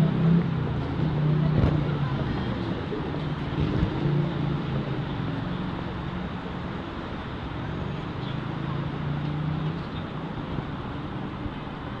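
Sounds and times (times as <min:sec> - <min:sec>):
city noise: 0:00.0 - 0:12.0.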